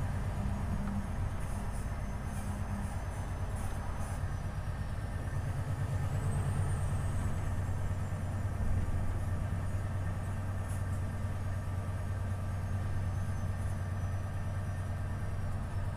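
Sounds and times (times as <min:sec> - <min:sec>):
diesel truck engine running: 0:00.0 - 0:15.9.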